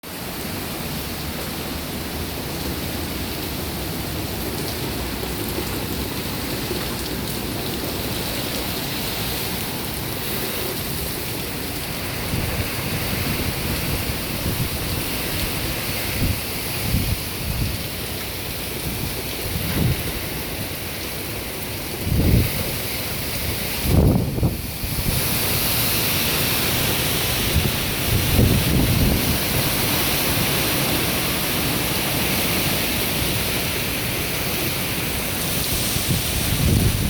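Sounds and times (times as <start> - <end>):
heavy rain and wind: 0.0 - 37.0
wind buffeting microphone: 4.0 - 20.8, 21.8 - 37.0.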